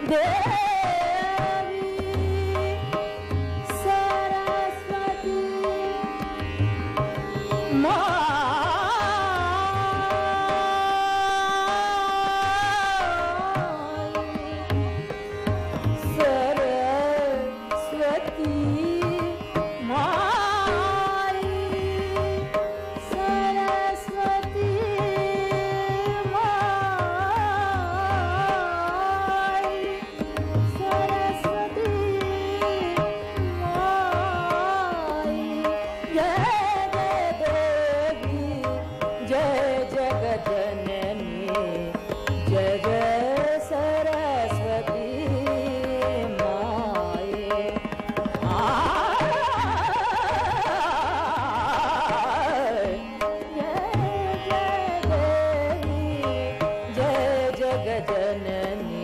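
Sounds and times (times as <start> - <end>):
sarangi melody: 0.0 - 59.0
tabla rhythm: 0.0 - 59.0
tanpura drone: 0.0 - 59.0.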